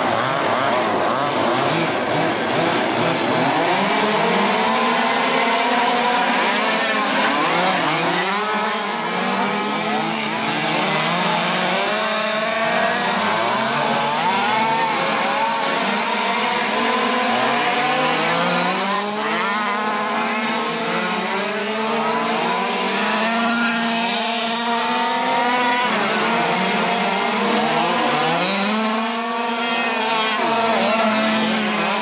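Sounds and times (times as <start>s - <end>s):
rc car engines whining: 0.0s - 32.0s.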